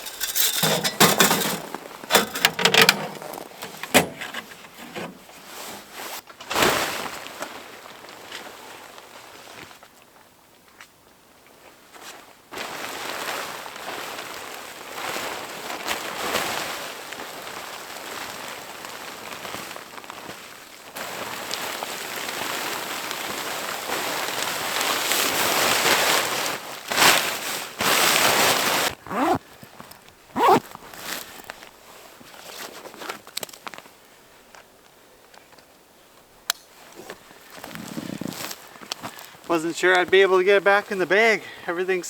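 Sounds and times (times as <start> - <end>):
tent fabric rustling and crinkling: 0.0 - 10.0, 11.7 - 34.4, 36.7 - 41.1.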